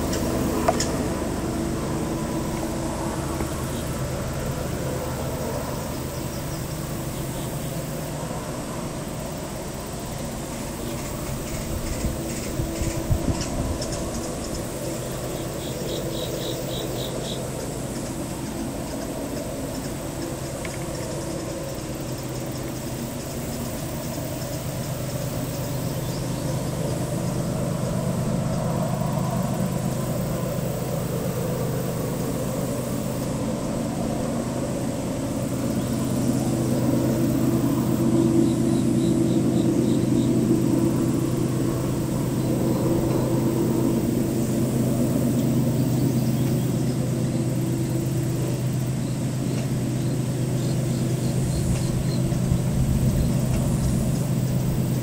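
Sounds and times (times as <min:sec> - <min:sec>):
distant diesel locomotive chugging: 0:00.0 - 0:55.0
insects chirping: 0:00.0 - 0:55.0.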